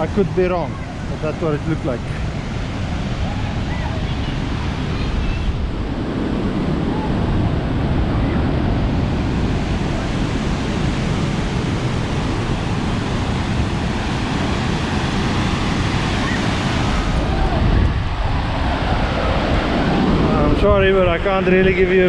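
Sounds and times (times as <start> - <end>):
waterfall roaring: 0.0 - 22.0
wind buffeting microphone: 0.0 - 22.0.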